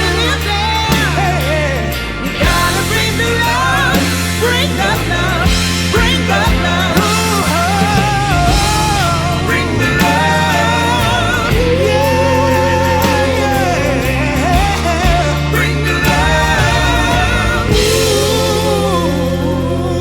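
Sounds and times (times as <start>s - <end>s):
bass and instrumental backing: 0.0s - 20.0s
wavering singing voice: 0.0s - 20.0s.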